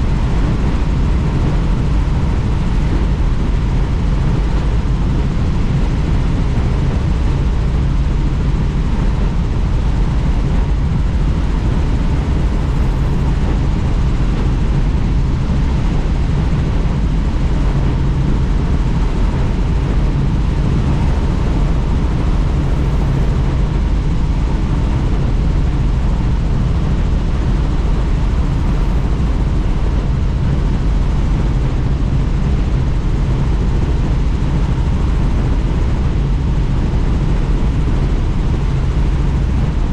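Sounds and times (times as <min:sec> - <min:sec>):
helicopter rotor and engine: 0:00.0 - 0:39.9
rush of wind: 0:00.0 - 0:39.9.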